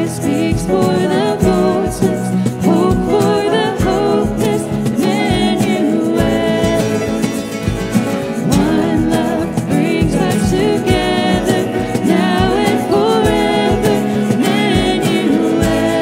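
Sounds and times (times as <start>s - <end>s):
guitars: 0.0s - 16.0s
people singing: 0.0s - 16.0s
steady drum beat: 0.0s - 16.0s.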